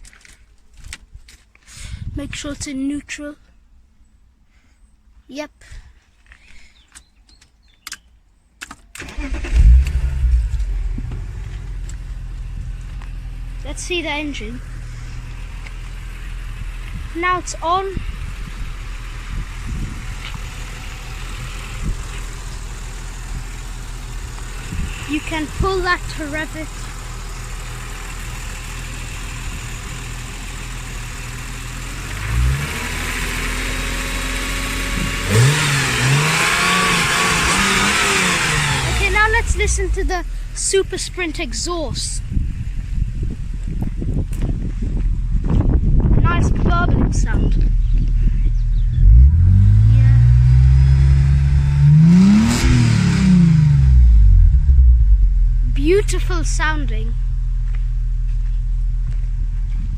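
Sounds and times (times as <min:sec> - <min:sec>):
car engine starting and idling: 0:08.9 - 0:59.9.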